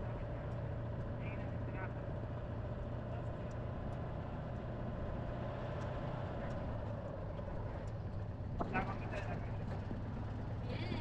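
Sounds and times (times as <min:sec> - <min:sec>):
car engine droning: 0:00.0 - 0:11.0
road noise: 0:00.0 - 0:11.0.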